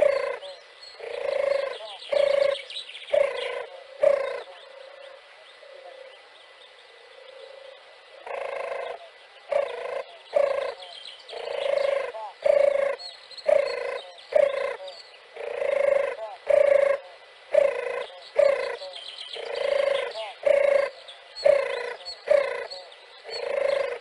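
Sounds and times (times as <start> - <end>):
dove cooing: 0.0 - 6.3, 6.9 - 24.0.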